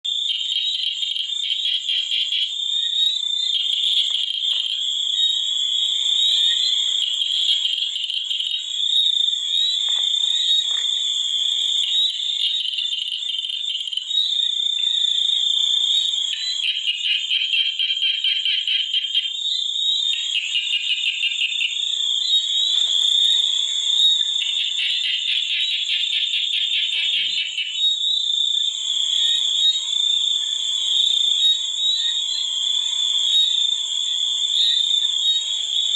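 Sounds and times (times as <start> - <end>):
frogs croaking in trills: 0.0 - 35.9.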